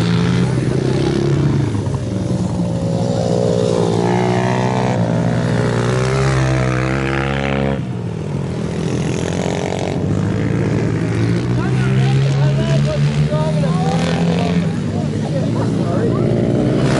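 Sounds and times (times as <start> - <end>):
motorcycle engine accelerating: 0.0 - 16.9.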